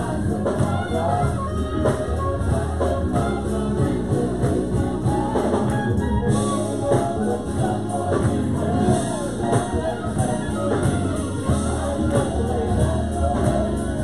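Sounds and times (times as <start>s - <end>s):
gospel singers with band: 0.0s - 14.0s.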